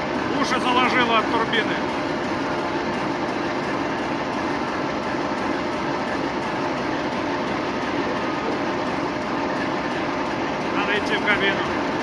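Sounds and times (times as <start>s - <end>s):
locomotive diesel engine running: 0.0s - 12.0s.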